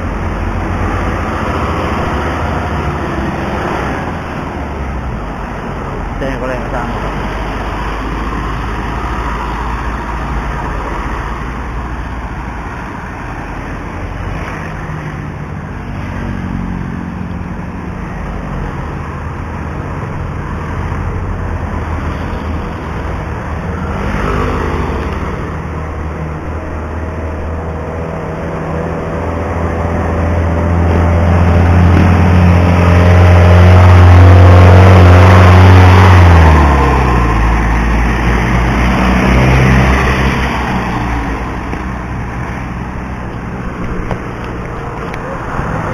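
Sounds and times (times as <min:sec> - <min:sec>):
motor vehicle engine passing: 0:00.0 - 0:45.9.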